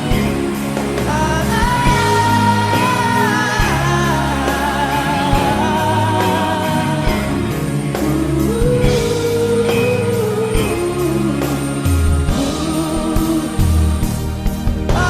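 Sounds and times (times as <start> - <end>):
backing band with steady beat: 0.0 - 15.0
song with wavering sung notes: 0.0 - 15.0.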